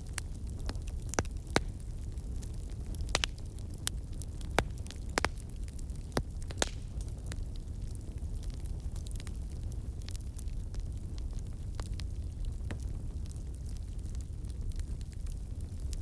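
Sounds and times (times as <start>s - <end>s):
fire crackling and popping: 0.0s - 16.0s
low rumble of burning fire: 0.0s - 16.0s.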